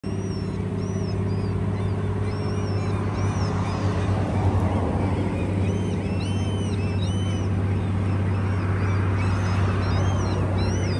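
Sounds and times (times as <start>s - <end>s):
high chirping bird calls: 0.0s - 10.9s
low machinery hum: 0.0s - 10.9s.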